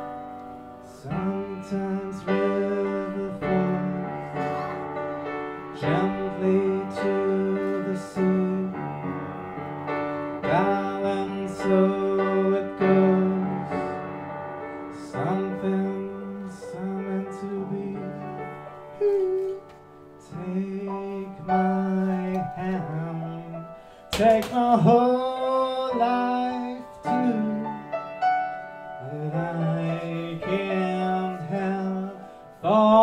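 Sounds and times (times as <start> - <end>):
upright piano: 0.0 - 33.0
man singing: 0.8 - 5.0, 5.6 - 9.3, 10.4 - 14.2, 14.8 - 28.2, 29.0 - 33.0.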